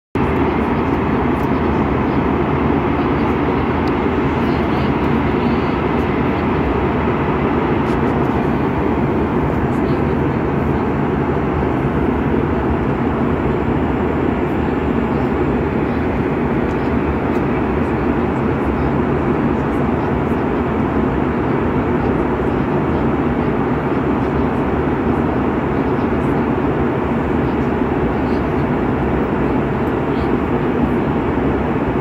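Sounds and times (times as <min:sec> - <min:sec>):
airplane cabin drone: 0:00.2 - 0:32.0.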